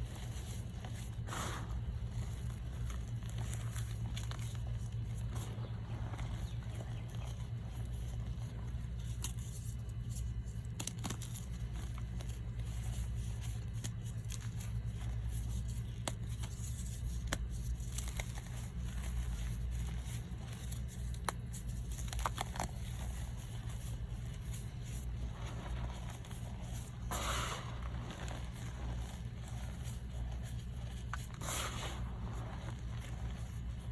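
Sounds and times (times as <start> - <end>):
powder blocks crunching: 0.0 - 33.9
steady low hum: 0.0 - 33.9.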